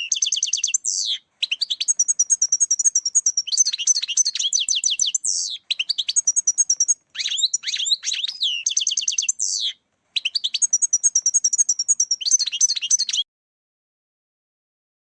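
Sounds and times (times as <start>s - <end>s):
finch twittering song: 0.0s - 13.2s.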